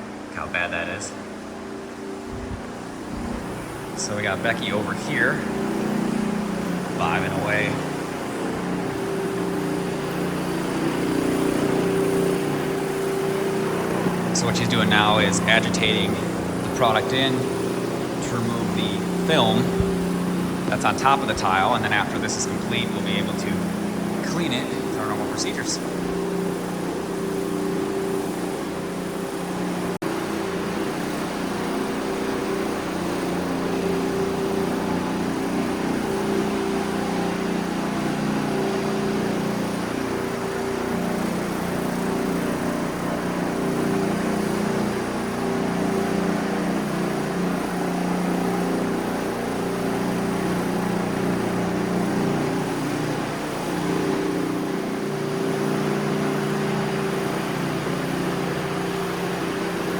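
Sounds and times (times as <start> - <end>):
floor-cleaning machine humming: 0.0 - 59.9.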